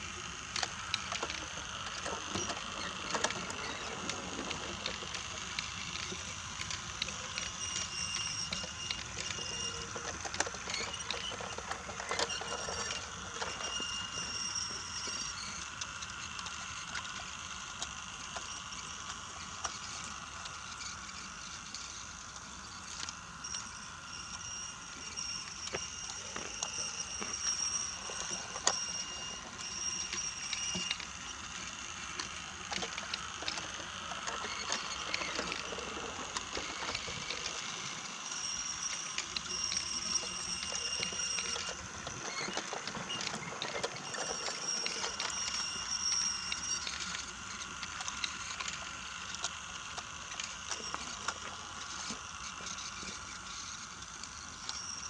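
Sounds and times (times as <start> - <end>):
toy train motor whine: 0.0 - 55.0
wheels clicking over track joints: 0.0 - 55.0.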